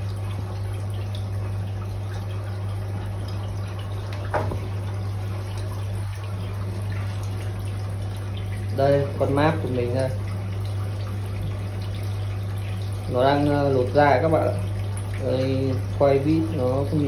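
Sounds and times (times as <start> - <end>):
aquarium pump humming: 0.0 - 17.0
water splashing and trickling: 0.0 - 17.0.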